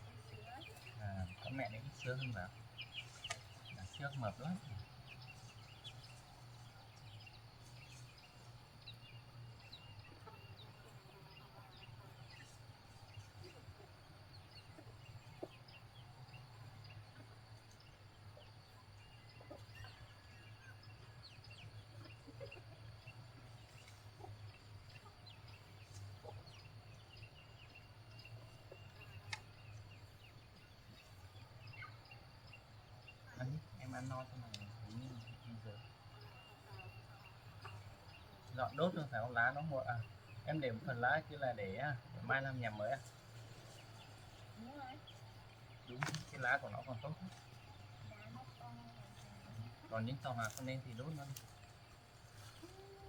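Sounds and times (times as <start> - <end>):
chickens clucking and chirping: 0.0 - 53.0.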